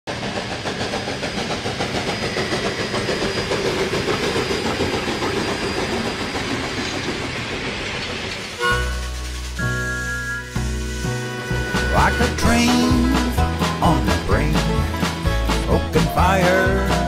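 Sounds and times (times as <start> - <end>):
rumble of rolling train cars: 0.1 - 17.0
steam locomotive exhaust chuffing: 0.1 - 17.0.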